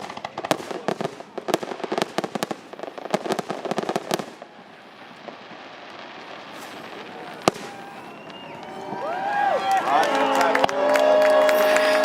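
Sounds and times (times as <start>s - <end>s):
fireworks crackling pops: 0.0s - 10.8s.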